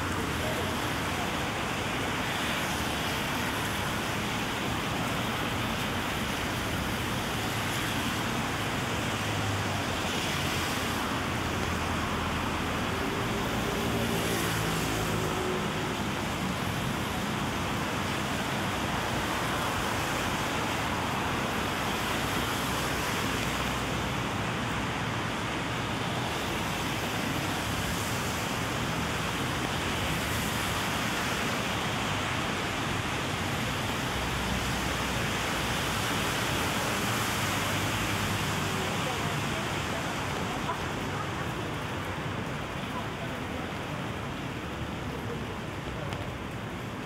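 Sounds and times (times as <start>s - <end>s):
rain on wet street: 0.0s - 47.0s
traffic noise: 0.0s - 47.0s.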